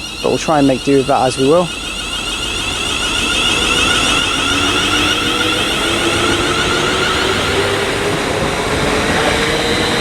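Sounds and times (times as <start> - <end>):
electric train motors whining: 0.0 - 10.0.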